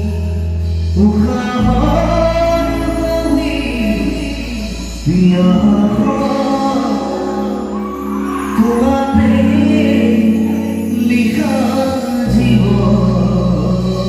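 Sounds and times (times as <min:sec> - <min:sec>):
live band with guitars and keyboard: 0:00.0 - 0:14.0
man singing: 0:00.0 - 0:14.0.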